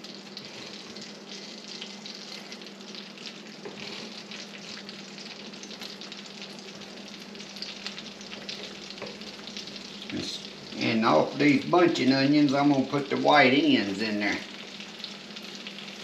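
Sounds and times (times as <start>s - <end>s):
garlic sizzling in oil: 0.0s - 16.0s.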